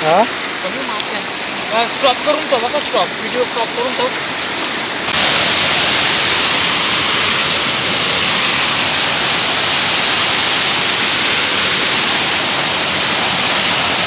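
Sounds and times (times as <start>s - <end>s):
falling water splashing: 0.0s - 14.0s.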